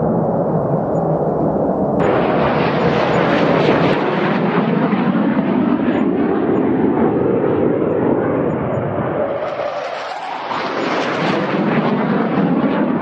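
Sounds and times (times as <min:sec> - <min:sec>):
fighter jet roar: 0:00.0 - 0:13.0.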